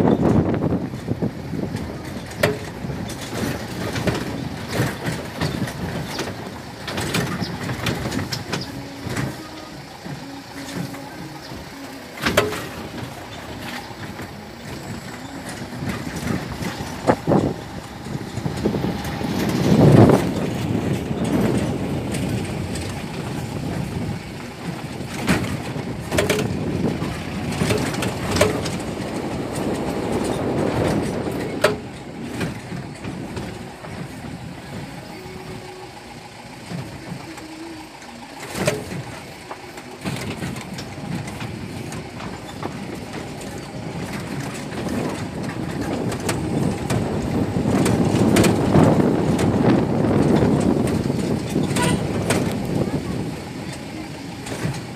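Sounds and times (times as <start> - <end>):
vehicle driving on rough road: 0.0 - 54.9
vehicle jolting over bumps: 0.0 - 54.9.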